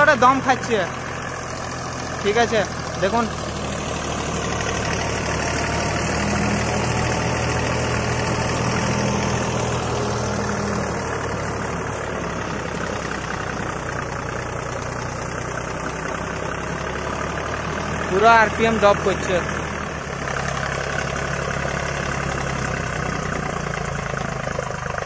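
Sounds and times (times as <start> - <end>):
rotavator running: 0.0 - 25.0
tractor diesel engine under load: 0.0 - 25.0.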